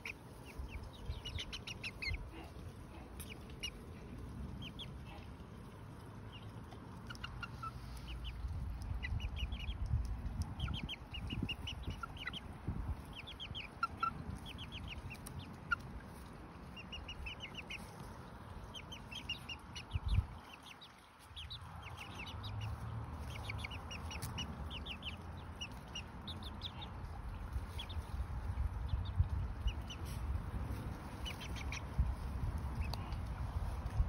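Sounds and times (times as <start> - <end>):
chicks peeping: 0.0 - 34.0.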